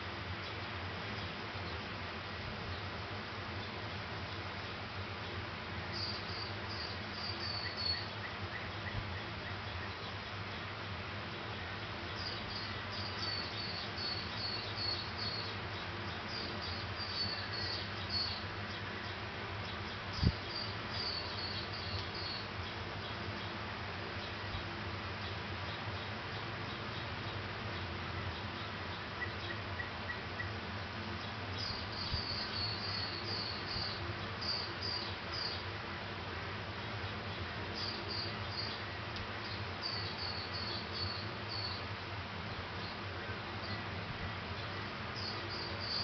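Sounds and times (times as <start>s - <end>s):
steady hiss: 0.0s - 46.0s.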